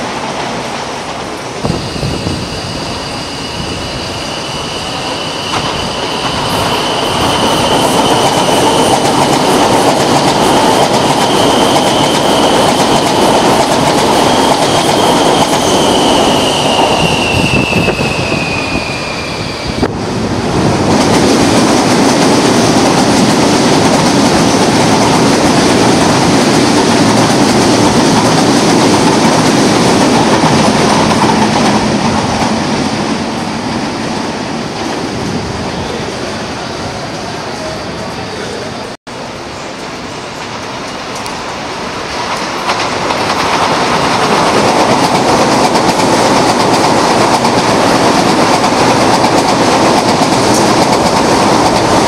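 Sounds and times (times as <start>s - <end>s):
train high whine: 0.0s - 52.0s
train wheels rumbling on rail: 0.0s - 52.0s.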